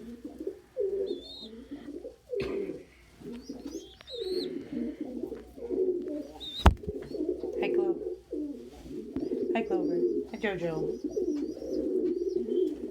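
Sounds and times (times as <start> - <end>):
pigeons cooing: 0.0 - 12.9.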